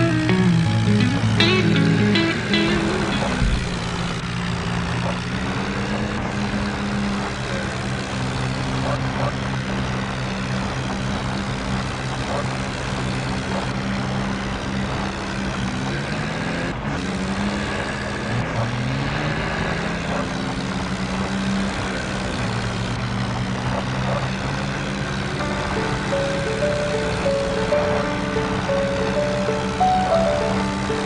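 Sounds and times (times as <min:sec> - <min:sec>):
tractor engines running: 0:00.0 - 0:31.0.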